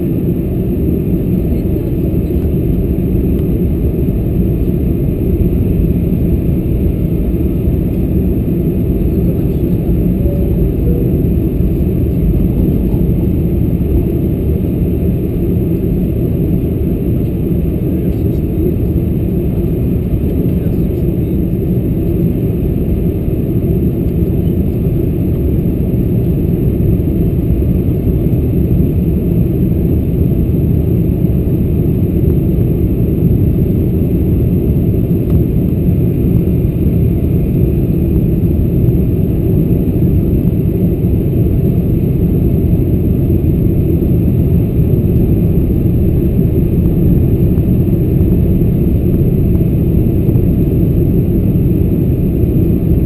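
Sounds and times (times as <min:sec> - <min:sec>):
jet engines and airflow rumble: 0:00.0 - 0:53.0.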